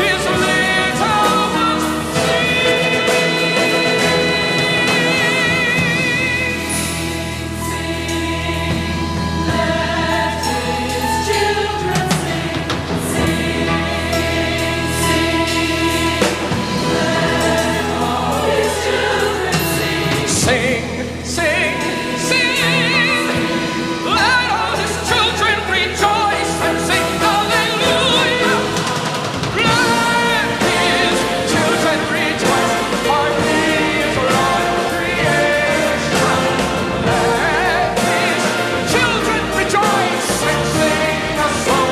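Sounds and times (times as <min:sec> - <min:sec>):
choir singing sacred song: 0:00.0 - 0:41.9
instrumental accompaniment: 0:00.0 - 0:41.9.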